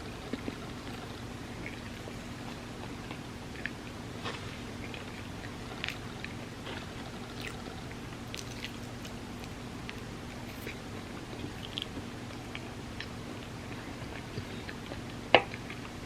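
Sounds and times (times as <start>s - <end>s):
steady low hum: 0.0s - 16.0s
wet chewing mouth sounds: 0.2s - 16.0s.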